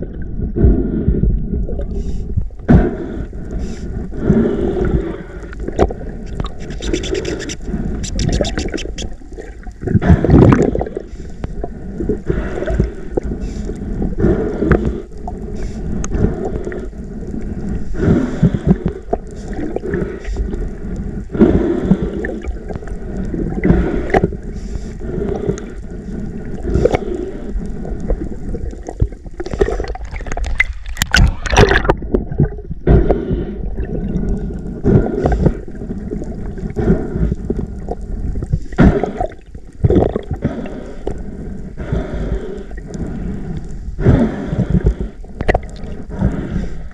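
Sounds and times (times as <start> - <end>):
underwater rushing and gurgling: 0.0 - 46.9
sharp clicks underwater: 5.4 - 11.6, 12.4 - 33.2, 34.1 - 41.3, 42.7 - 46.9.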